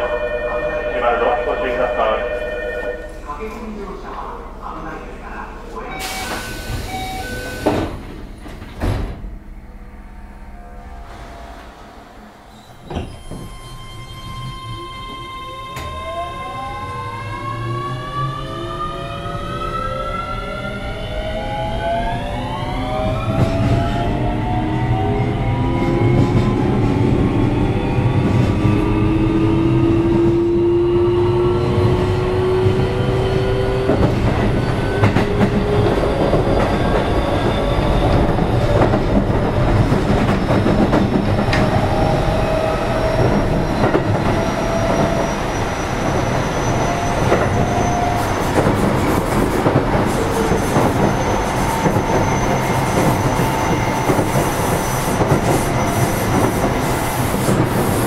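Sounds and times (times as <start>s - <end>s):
train wheels rumbling on rail: 3.0s - 16.2s, 21.1s - 58.0s.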